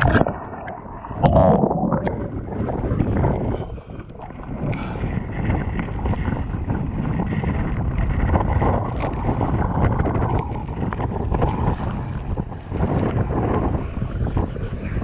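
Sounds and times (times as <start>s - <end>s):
water splashing against kayak: 0.0s - 15.0s
wind buffeting microphone: 0.0s - 15.0s.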